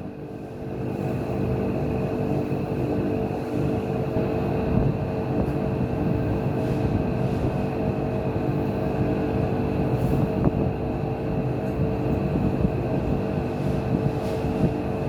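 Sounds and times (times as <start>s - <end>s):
engine running with low rumble: 0.0s - 15.0s.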